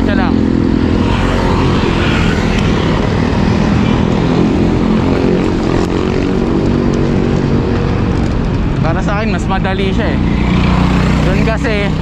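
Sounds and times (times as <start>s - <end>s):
motor traffic engines: 0.0s - 12.0s
wind rush on microphone: 0.0s - 12.0s.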